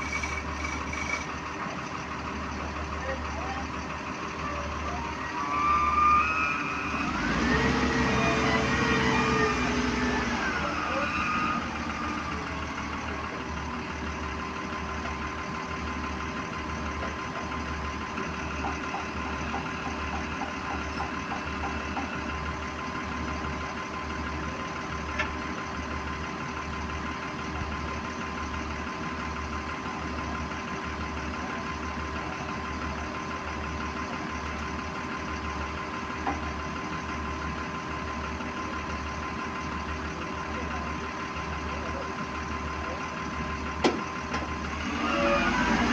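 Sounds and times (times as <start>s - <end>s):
engine running with low throb: 0.0s - 45.9s.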